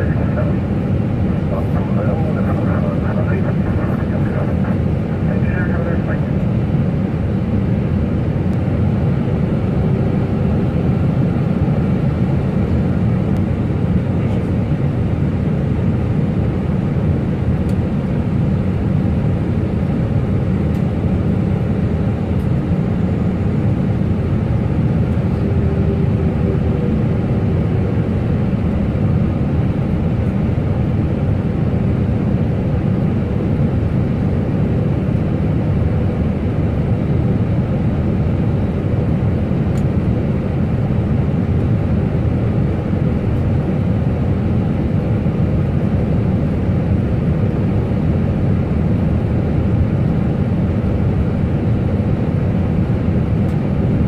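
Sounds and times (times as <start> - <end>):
airliner cockpit engine rumble: 0.0 - 54.0.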